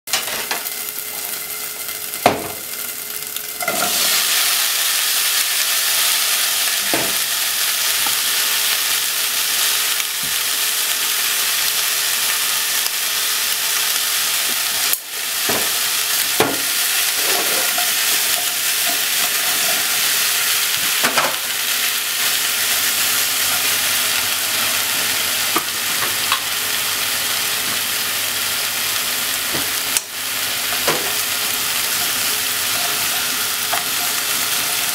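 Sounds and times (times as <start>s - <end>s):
bacon sizzling in a pot: 0.1s - 34.9s.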